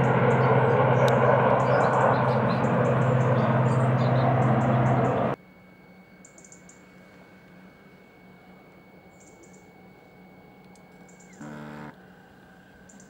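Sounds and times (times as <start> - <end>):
helicopter engine drone: 0.0 - 13.0.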